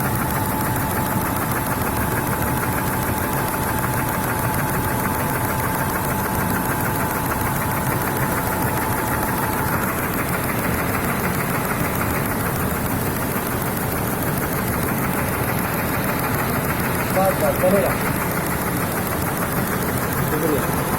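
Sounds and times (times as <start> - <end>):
fast mechanical clatter: 0.0 - 20.9
machine whine: 0.0 - 20.9.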